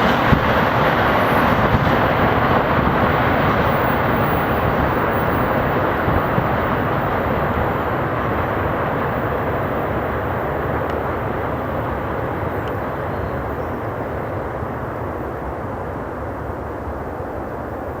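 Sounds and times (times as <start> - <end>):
freight train passing: 0.0 - 18.0.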